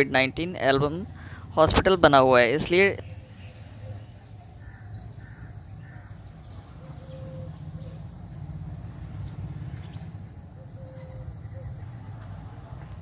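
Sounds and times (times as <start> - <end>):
birds calling: 0.0 - 12.3
high-pitched insect drone: 0.0 - 13.0.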